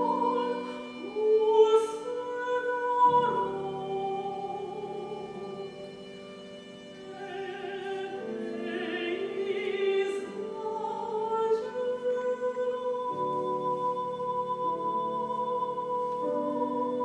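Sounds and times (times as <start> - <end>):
woman singing with vibrato: 0.0 - 5.8, 7.1 - 17.0
bowed viola: 0.0 - 17.0.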